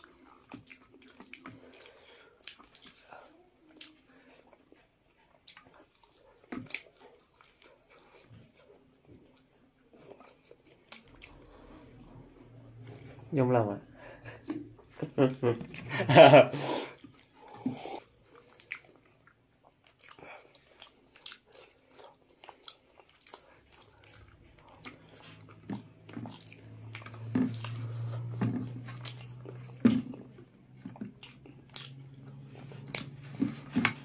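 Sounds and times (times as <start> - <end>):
chewing and biting food: 0.0 - 13.3, 16.9 - 34.0.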